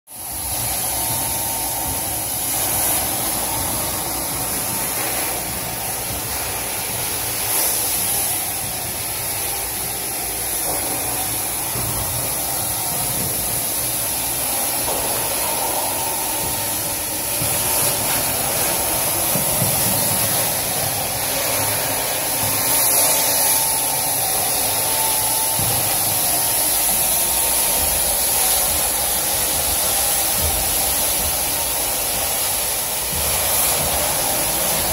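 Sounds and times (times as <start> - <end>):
carpet extraction suction and spray: 0.1 - 34.9.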